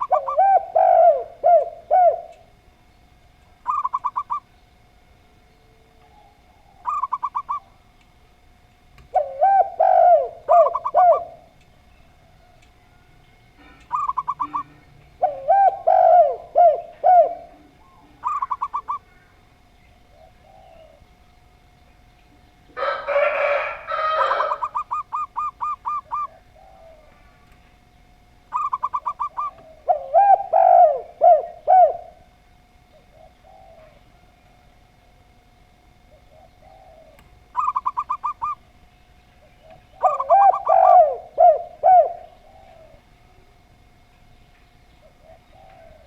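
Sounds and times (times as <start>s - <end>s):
doves cooing: 0.0s - 46.0s
faint steady hum: 0.0s - 46.0s.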